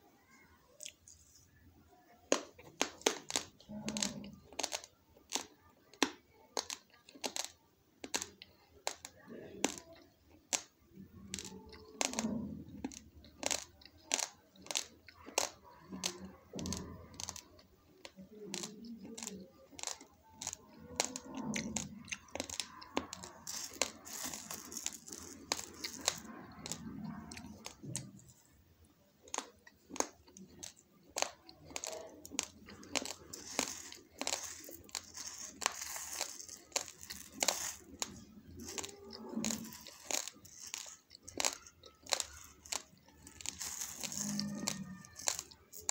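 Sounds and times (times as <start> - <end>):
rice stirred with plastic spoon: 0.0 - 28.5, 29.1 - 45.9.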